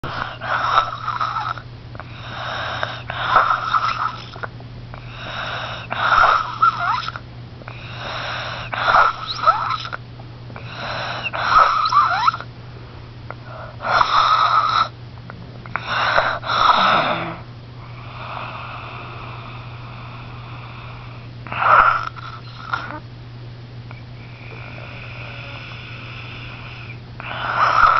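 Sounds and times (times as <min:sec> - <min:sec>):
wheezy snoring: 0:00.0 - 0:10.0, 0:10.6 - 0:12.5, 0:13.4 - 0:14.9, 0:15.7 - 0:23.0, 0:24.2 - 0:27.9
steady low hum: 0:00.0 - 0:27.9.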